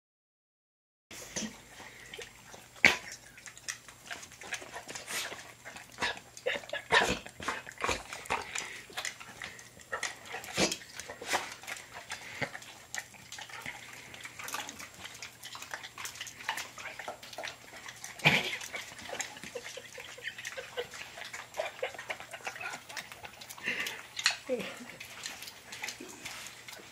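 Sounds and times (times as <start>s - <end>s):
dog licking and smacking mouth: 1.4s - 26.9s.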